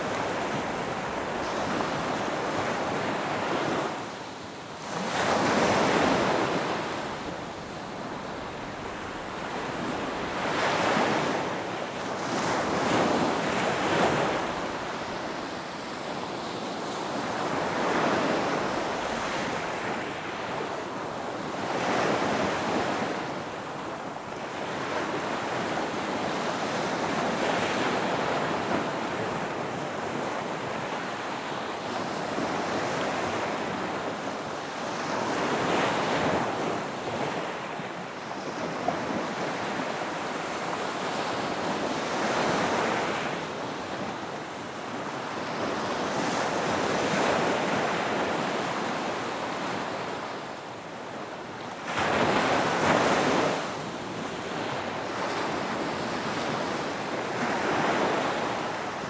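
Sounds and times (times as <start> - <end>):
ocean waves breaking on beach: 0.0 - 59.0
wind: 0.0 - 59.0.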